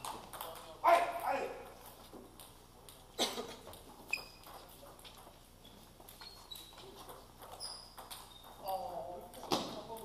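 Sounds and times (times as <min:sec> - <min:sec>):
shoe soles squeaking: 0:00.0 - 0:09.4
table tennis balls clicking: 0:00.0 - 0:10.0.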